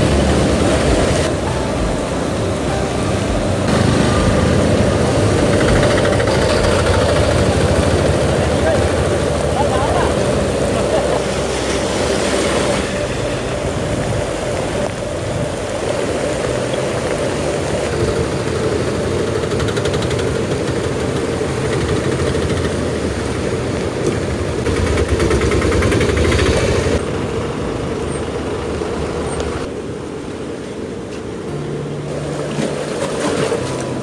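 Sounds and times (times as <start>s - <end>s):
heavy rain: 0.0s - 34.0s
rushing floodwater: 0.0s - 34.0s.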